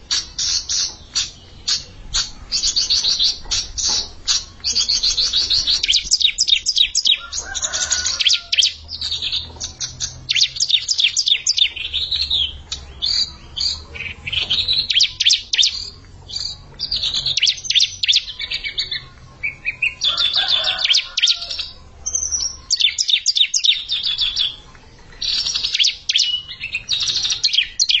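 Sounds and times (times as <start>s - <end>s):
birds singing high chirping trills: 0.0s - 28.0s.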